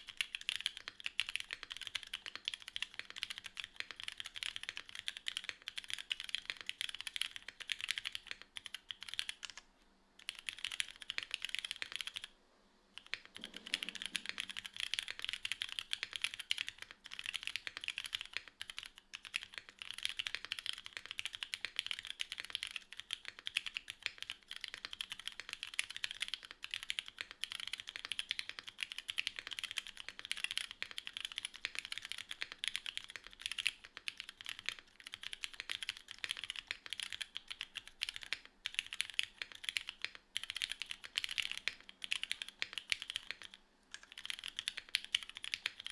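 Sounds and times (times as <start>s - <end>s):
mechanical keyboard typing: 0.0s - 12.3s, 13.0s - 45.9s.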